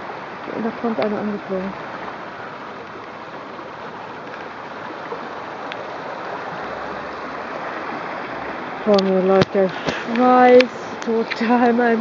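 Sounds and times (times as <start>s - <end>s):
sea water washing along shore: 0.0s - 12.0s.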